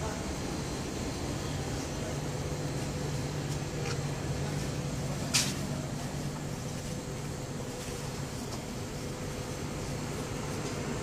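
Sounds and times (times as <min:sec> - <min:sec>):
vending machine hum: 0:00.0 - 0:11.0.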